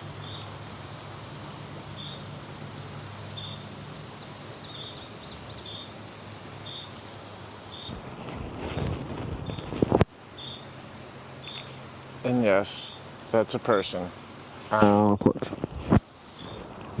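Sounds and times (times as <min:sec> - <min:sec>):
insect chirp: 0:00.0 - 0:14.8, 0:15.6 - 0:17.0
insects high-pitched drone: 0:00.0 - 0:14.9, 0:15.9 - 0:17.0
background hiss: 0:00.0 - 0:17.0.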